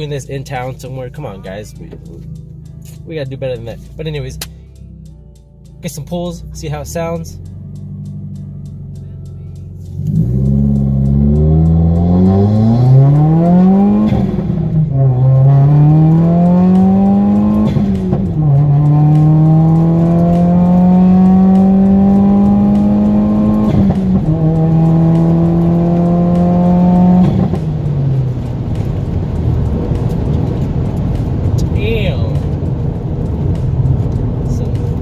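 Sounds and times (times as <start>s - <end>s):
car engine at full throttle: 0.0s - 35.0s.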